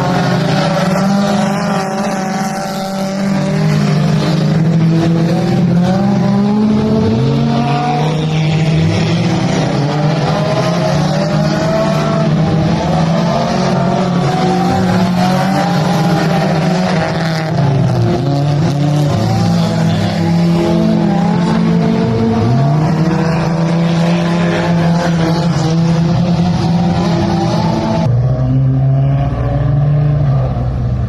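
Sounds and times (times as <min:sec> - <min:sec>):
engines revving up and down: 0:00.0 - 0:31.0
race car engines droning: 0:00.0 - 0:31.0.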